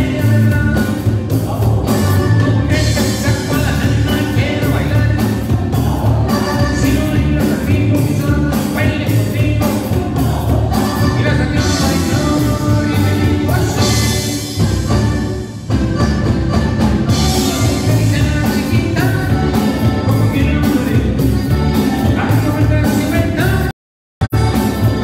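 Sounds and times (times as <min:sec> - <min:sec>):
person singing: 0:00.0 - 0:14.6, 0:17.0 - 0:23.7
heavy bass: 0:00.0 - 0:25.0
live band through pa: 0:00.0 - 0:25.0.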